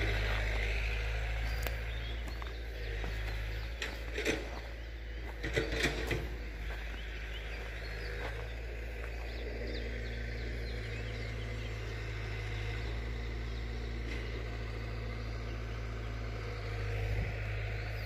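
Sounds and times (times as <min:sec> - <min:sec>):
diesel engine humming: 0:00.0 - 0:18.0
small birds chirping: 0:00.0 - 0:18.0.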